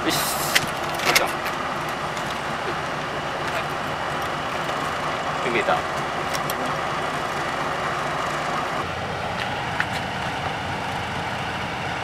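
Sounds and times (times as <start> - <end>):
low rumble of distant traffic: 0.0 - 12.0.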